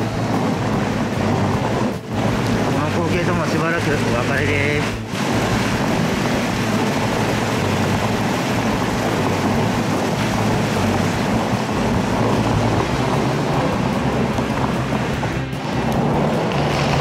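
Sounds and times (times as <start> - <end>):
fountains splashing: 0.0 - 17.0
wind on microphone: 0.0 - 17.0.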